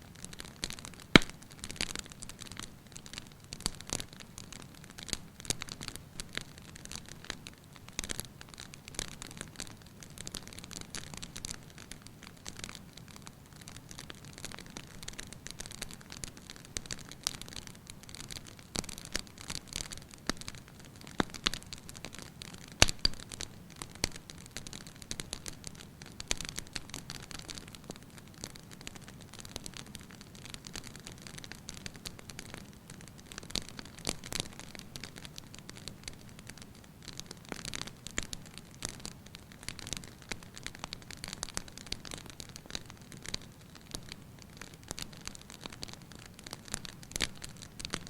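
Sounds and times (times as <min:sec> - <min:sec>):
wood fire crackling: 0:00.1 - 0:48.0.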